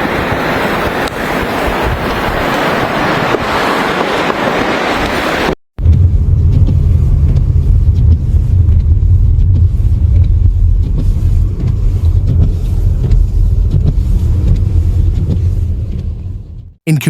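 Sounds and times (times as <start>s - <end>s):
vehicle driving rumble: 0.0s - 16.8s.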